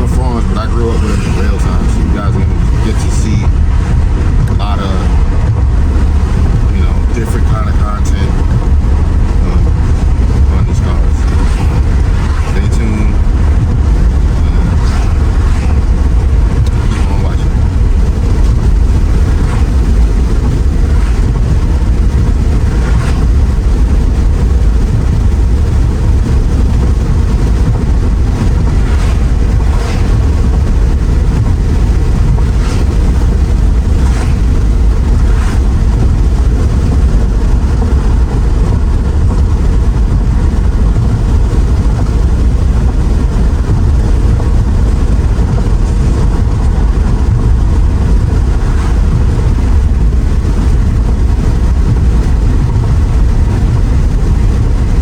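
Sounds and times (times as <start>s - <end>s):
road and wind noise: 0.0s - 55.0s.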